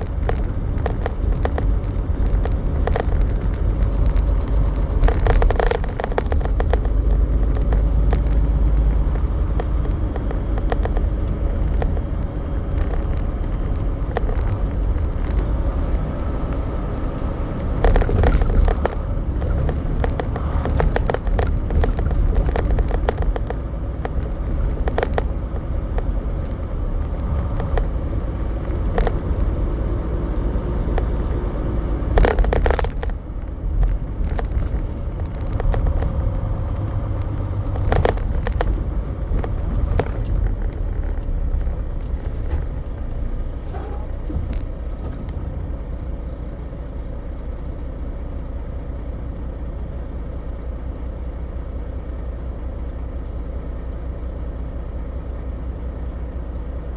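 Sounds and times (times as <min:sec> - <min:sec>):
knocks and rattles: 0:00.0 - 0:29.7, 0:32.1 - 0:48.4
truck engine and road rumble: 0:00.0 - 0:56.9.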